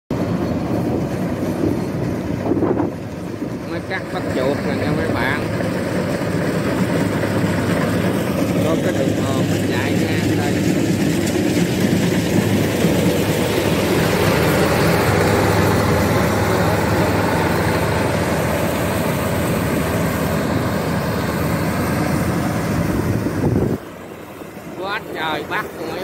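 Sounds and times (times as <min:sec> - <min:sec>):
combine harvester running: 0:00.1 - 0:26.0.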